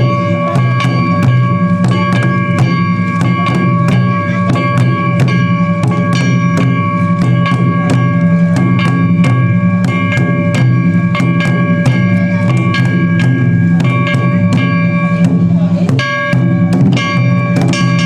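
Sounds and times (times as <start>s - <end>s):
deep drum: 0.0s - 18.0s
held ringing tone: 0.0s - 18.0s
percussion strikes: 0.0s - 18.0s.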